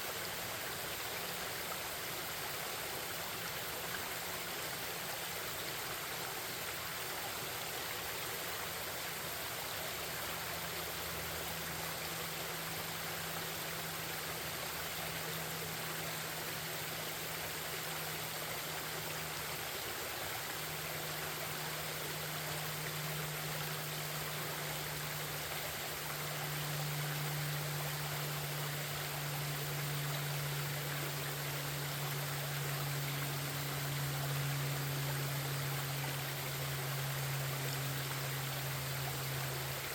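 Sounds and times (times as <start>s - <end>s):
forest stream babbling: 0.0s - 39.9s
low steady hum: 0.0s - 39.9s.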